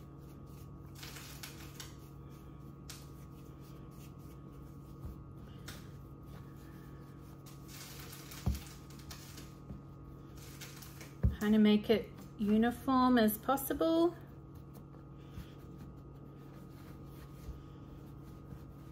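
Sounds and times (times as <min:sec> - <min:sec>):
hands rolling dough: 0:00.0 - 0:18.9
steady low hum: 0:00.0 - 0:18.9.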